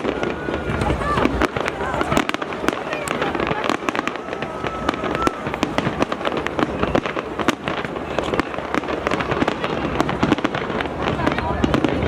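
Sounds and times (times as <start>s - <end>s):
firework whistle: 0.0s - 10.9s
fireworks bangs and crackles: 0.0s - 12.0s.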